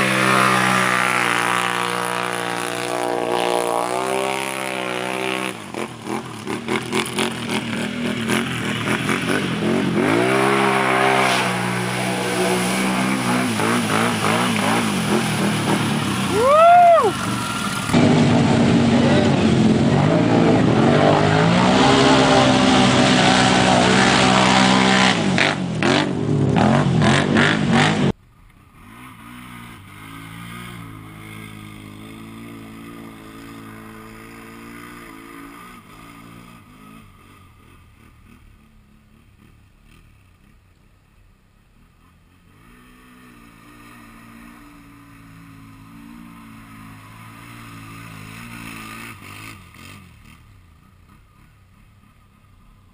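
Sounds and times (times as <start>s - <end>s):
atv engine running evenly: 0.0s - 20.0s, 25.2s - 52.9s
atv engine revving: 0.0s - 40.6s, 41.8s - 52.9s.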